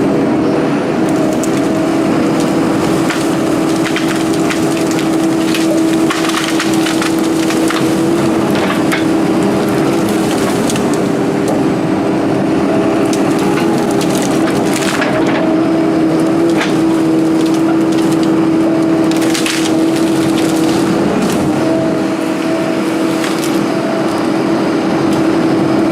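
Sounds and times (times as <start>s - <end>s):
excavator engine running: 0.0s - 25.9s
wood cracking and splintering: 1.1s - 11.8s, 12.8s - 25.3s.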